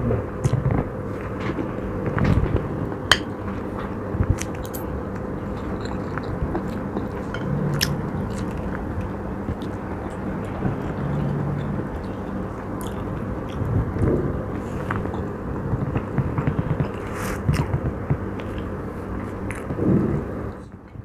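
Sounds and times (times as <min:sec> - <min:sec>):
faint steady hum: 0:00.0 - 0:21.0
person chewing food: 0:00.4 - 0:20.7.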